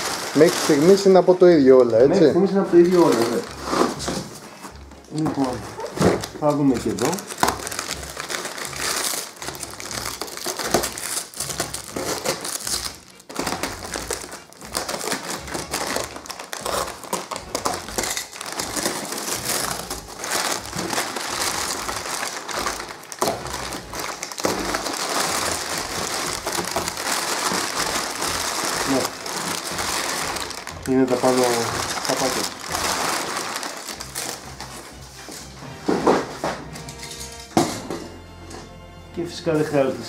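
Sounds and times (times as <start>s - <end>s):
packing paper crinkling and rustling: 0.0s - 34.9s.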